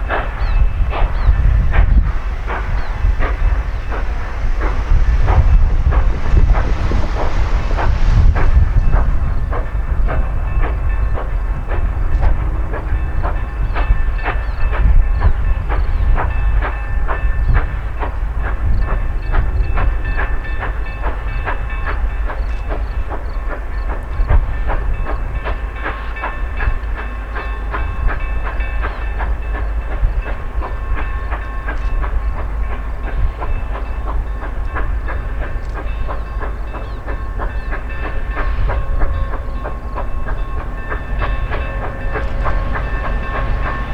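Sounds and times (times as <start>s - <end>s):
train wheels clattering on rails: 0.0s - 43.9s.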